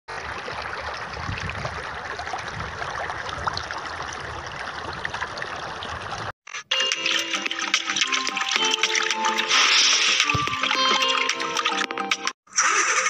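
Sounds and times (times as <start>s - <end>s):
river water washing: 0.1s - 6.3s, 6.9s - 12.0s.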